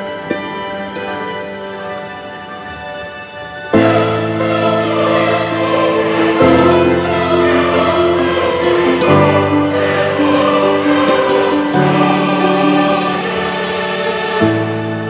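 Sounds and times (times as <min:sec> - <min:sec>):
voices singing sustained chords: 0:00.0 - 0:15.0.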